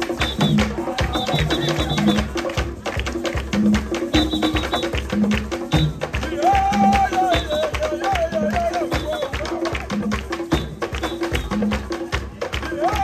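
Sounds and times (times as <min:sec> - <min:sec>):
wooden hand drums playing: 0:00.0 - 0:13.0.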